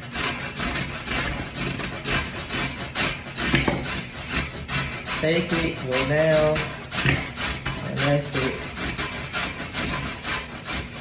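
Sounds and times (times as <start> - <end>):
carrot rasping on a grater: 0.0 - 11.0.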